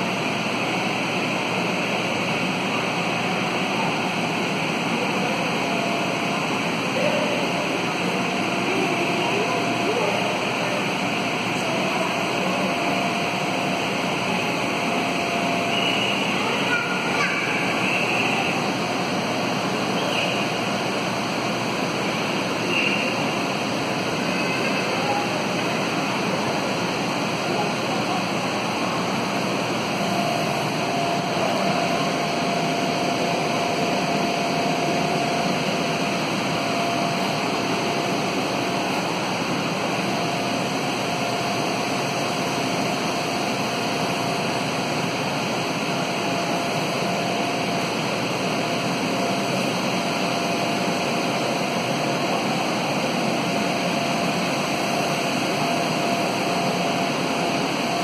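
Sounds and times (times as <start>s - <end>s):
electric air blowers running: 0.0s - 58.0s.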